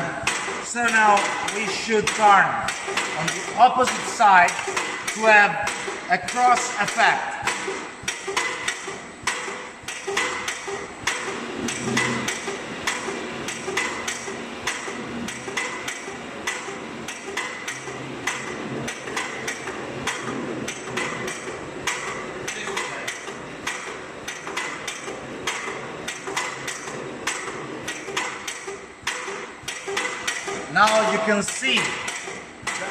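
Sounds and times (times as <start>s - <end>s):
machine running hum: 0.0s - 32.9s.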